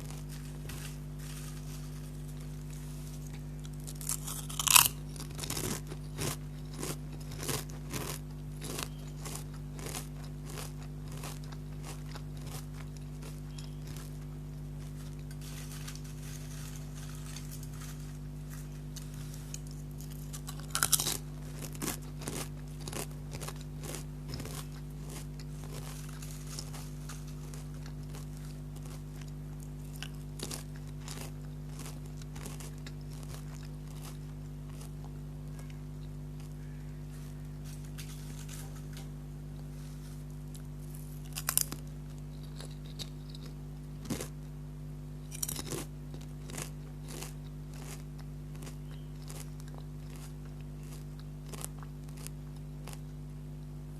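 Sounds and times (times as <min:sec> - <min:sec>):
potato chips crunching: 0:00.0 - 0:44.5, 0:45.2 - 0:53.2
low hum: 0:00.0 - 0:53.9.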